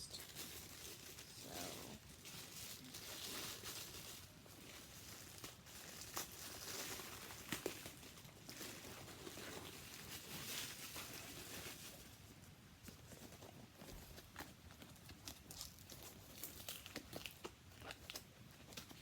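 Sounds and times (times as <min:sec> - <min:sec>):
packaging crinkling and tearing: 0:00.0 - 0:12.3, 0:13.0 - 0:19.0.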